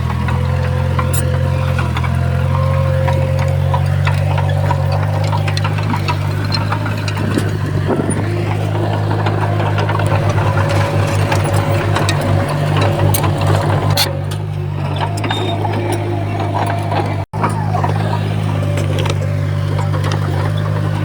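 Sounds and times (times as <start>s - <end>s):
bulldozer diesel engine running: 0.0s - 21.0s
machine clanks and rattles: 0.0s - 21.0s.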